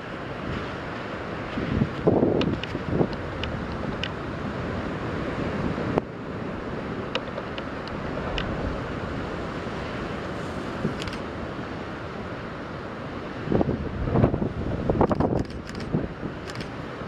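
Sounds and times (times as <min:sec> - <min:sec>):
wind buffeting microphone: 0:00.0 - 0:11.6, 0:13.4 - 0:16.8.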